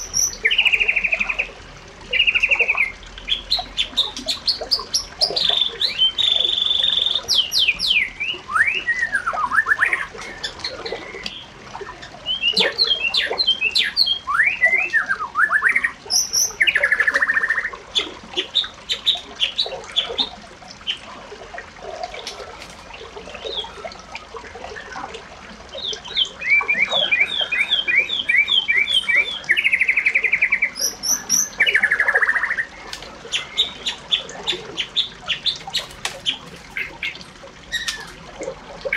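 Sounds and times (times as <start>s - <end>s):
birds chirping and trilling: 0.0s - 21.3s, 22.0s - 38.9s.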